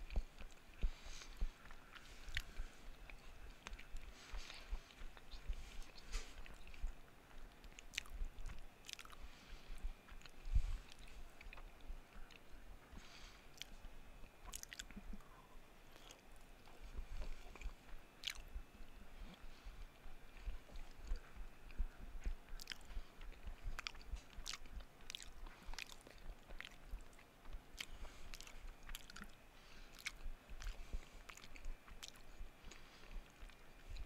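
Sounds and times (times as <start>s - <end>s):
mouth clicks and smacks: 0.0s - 12.5s, 13.5s - 15.3s, 15.9s - 34.0s
chewing and biting food: 0.0s - 15.3s, 15.9s - 34.0s.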